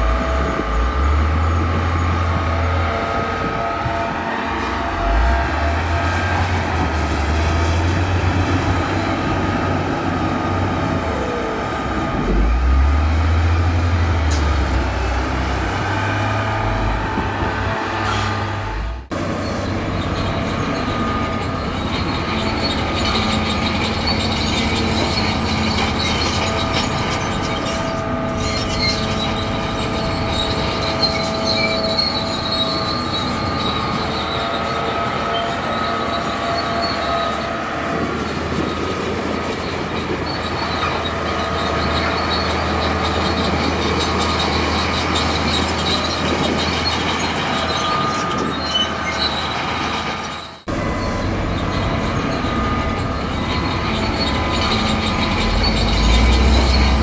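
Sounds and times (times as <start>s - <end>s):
crawler tracks squealing: 0.0s - 57.0s
diesel engine running under load: 0.0s - 57.0s.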